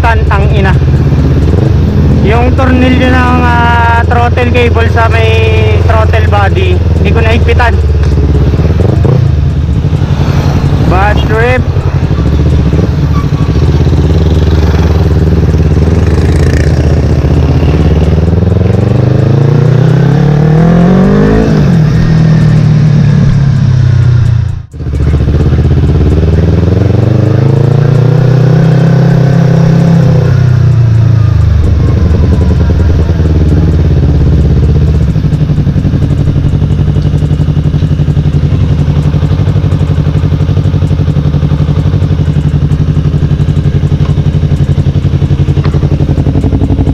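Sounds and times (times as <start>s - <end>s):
motorcycle engine idling: 0.0s - 28.3s, 30.2s - 46.9s
motorcycle engine revving: 0.0s - 46.9s.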